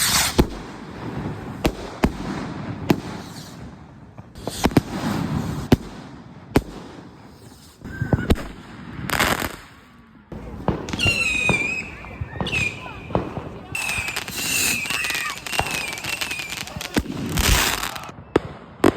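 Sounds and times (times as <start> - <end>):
fireworks crackling hiss: 0.0 - 18.2
fireworks bangs: 0.0 - 18.9.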